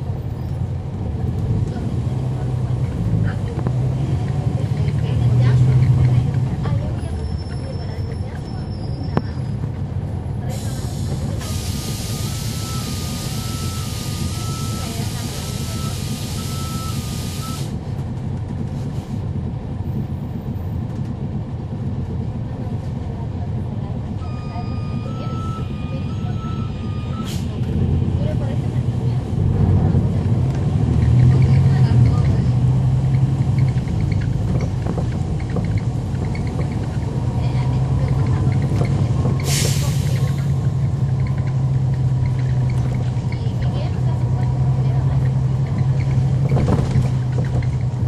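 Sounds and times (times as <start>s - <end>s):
bus diesel engine rumble: 0.0s - 48.0s.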